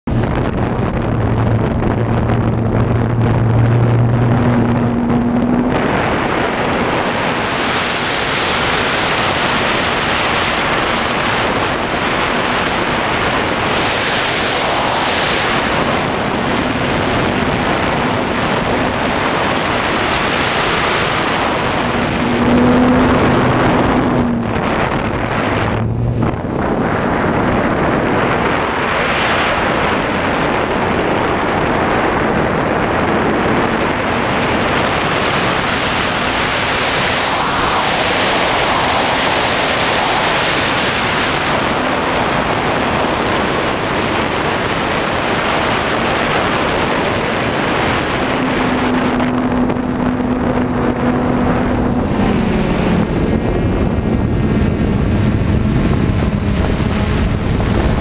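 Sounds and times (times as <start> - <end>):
wind rushing over microphone: 0.0 - 58.0
drone motors and propellers: 0.1 - 58.0.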